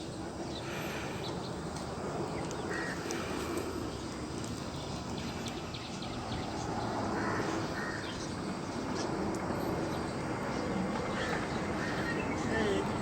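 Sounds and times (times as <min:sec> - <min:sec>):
bird calls: 0:00.0 - 0:13.0
wind rumble: 0:00.0 - 0:13.0.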